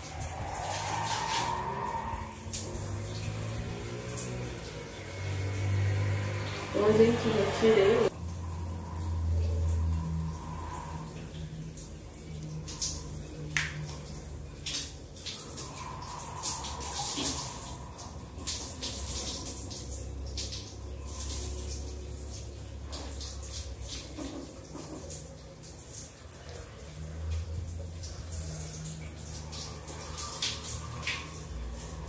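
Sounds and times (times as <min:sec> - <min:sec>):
shower water splashing: 0:00.0 - 0:32.0.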